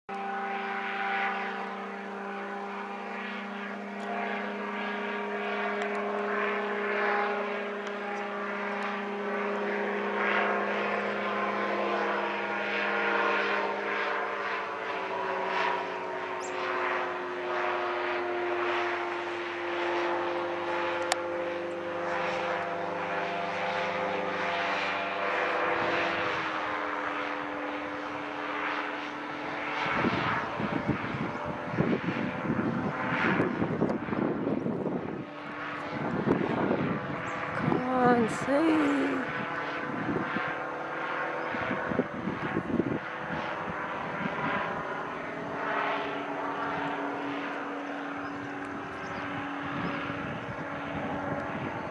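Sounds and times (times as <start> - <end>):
engine and propeller droning overhead: 0.1 - 51.9.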